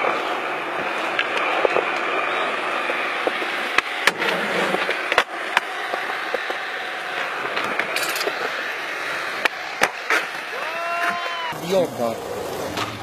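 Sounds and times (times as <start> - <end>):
skateboard clacking on concrete: 0.0 - 13.0
skateboard wheels rolling on concrete: 0.0 - 13.0.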